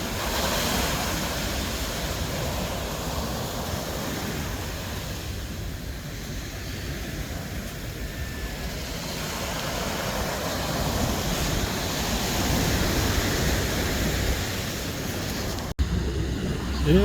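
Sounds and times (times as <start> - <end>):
surf at the shore: 0.0 - 17.0
wind: 0.0 - 17.0.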